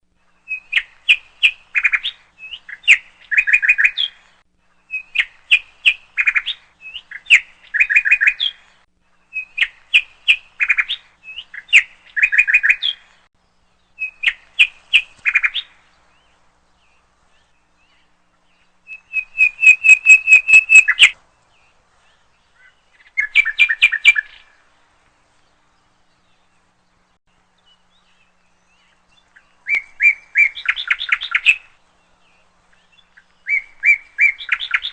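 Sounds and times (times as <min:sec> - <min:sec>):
songbird chirping: 0:00.1 - 0:34.9.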